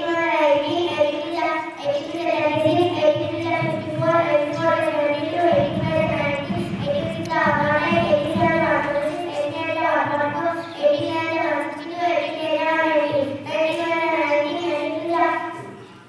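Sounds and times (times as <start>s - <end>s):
girl singing into a microphone: 0.0s - 15.8s.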